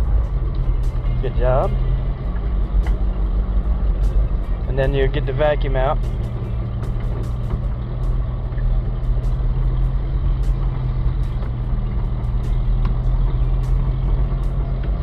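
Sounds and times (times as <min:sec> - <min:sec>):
pickup engine hum: 0:00.0 - 0:15.0
road noise: 0:00.0 - 0:15.0.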